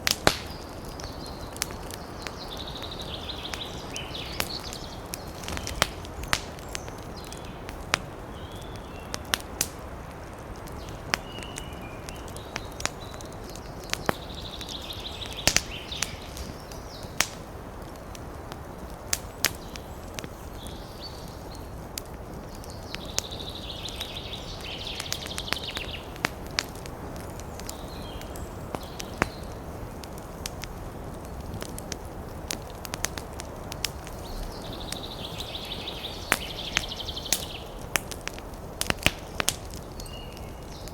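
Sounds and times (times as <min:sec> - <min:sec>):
fire hissing: 0:00.0 - 0:40.9
wood fire crackling: 0:00.0 - 0:40.9.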